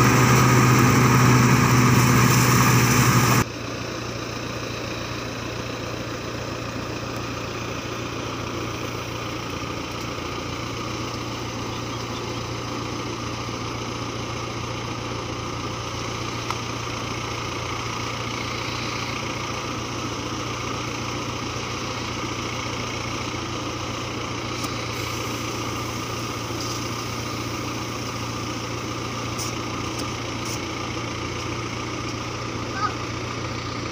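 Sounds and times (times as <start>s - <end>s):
combine harvester engine hum: 0.0s - 33.9s.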